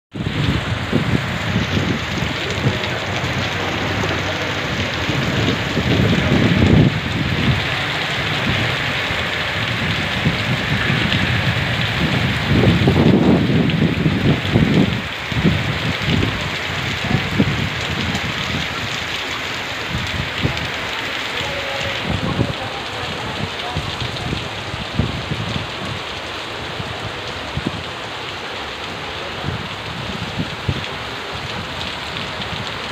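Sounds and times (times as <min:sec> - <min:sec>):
heavy pouring rain: 0:00.1 - 0:32.9.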